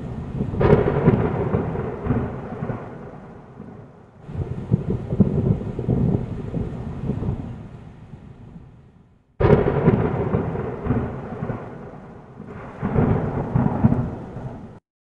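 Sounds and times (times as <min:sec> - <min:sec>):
deep thunder-like rumbling: 0:00.0 - 0:14.8.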